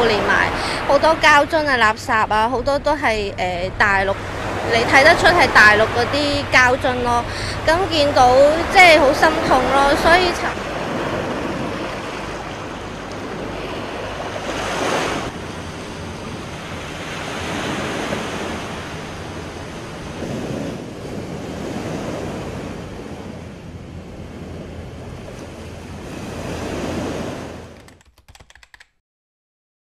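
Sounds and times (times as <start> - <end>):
sea waves on pebble beach: 0.0 - 23.6, 24.3 - 27.8.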